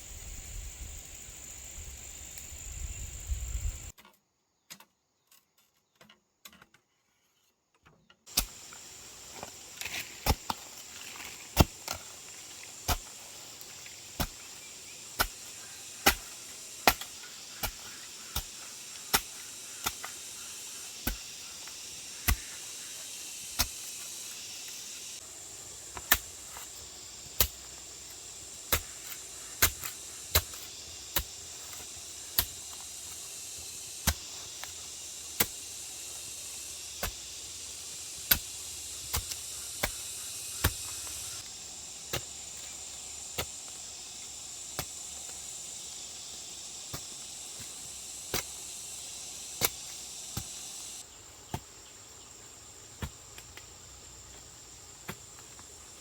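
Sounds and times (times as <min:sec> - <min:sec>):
insects droning: 0:00.0 - 0:05.2, 0:08.3 - 0:56.0.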